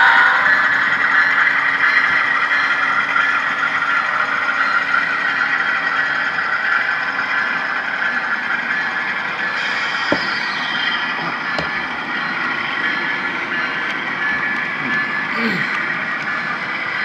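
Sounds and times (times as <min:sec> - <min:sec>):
low locomotive engine hum: 0:00.0 - 0:17.0
model train running on track: 0:00.0 - 0:17.0.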